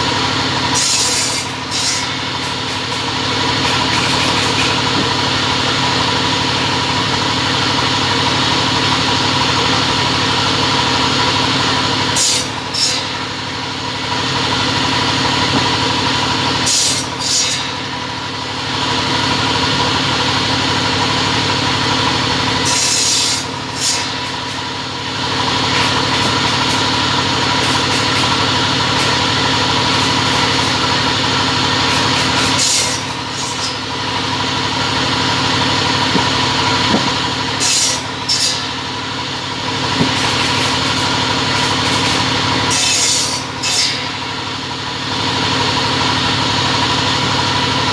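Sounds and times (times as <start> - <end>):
cutting machine motor hum: 0.0 - 47.9.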